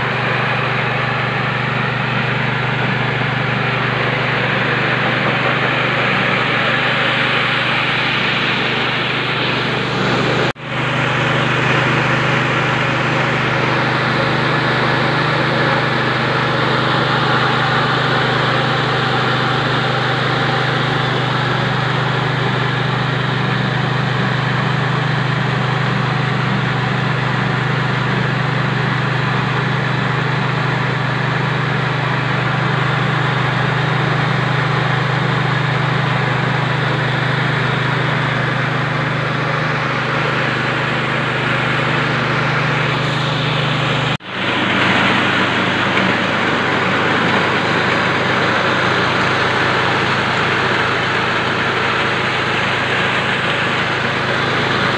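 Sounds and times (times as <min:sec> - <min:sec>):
rice milling machine humming: 0:00.0 - 0:54.9.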